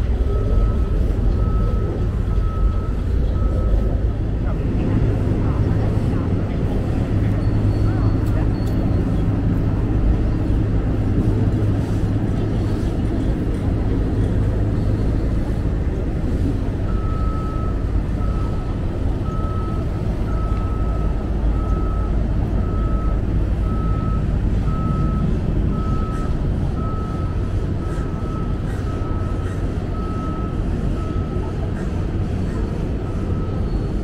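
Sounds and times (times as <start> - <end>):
reversing alarm beeping: 0.0 - 12.8, 14.8 - 34.0
low engine rumble: 0.0 - 34.0.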